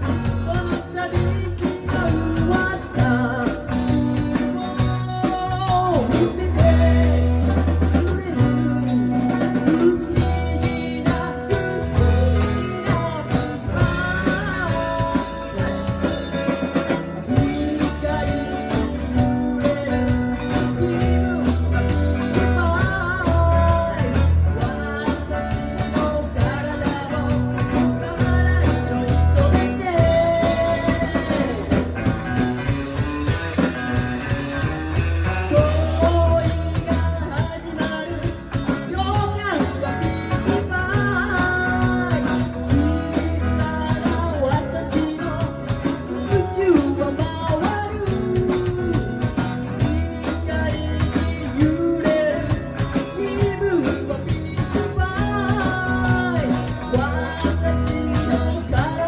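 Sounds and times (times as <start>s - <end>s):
bass guitar: 0.0s - 59.0s
drum kit beat: 0.0s - 59.0s
electric guitar: 0.0s - 59.0s
person singing: 0.0s - 59.0s.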